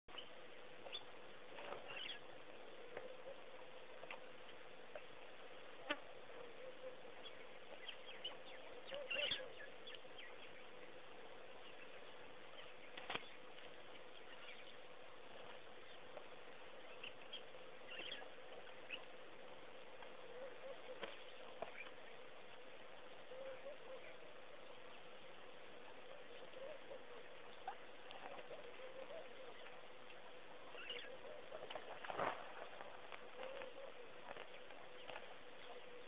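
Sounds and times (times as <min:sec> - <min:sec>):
steady low hum: 0:00.1 - 0:36.0.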